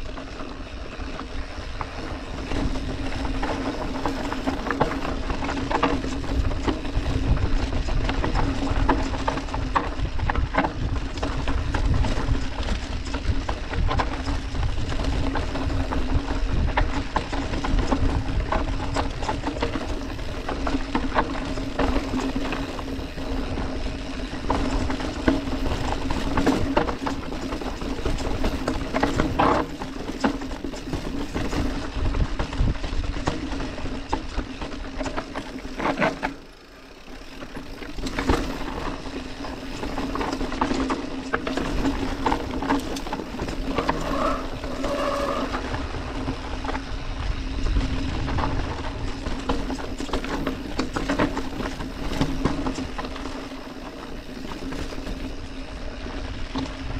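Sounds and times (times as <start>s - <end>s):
bike knocks and rattles: 0.0s - 45.4s, 46.1s - 56.9s
bike tyres rolling over dirt: 0.0s - 56.9s.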